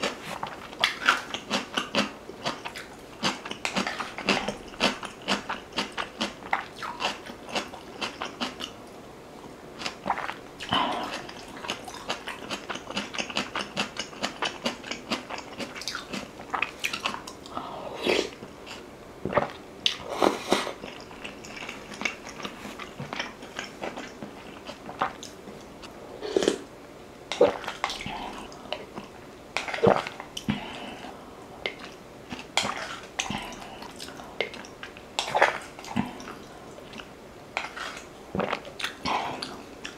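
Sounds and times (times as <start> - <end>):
close chewing and wet mouth sounds: 0.0 - 9.0, 9.8 - 17.6, 18.6 - 26.5, 27.3 - 39.9.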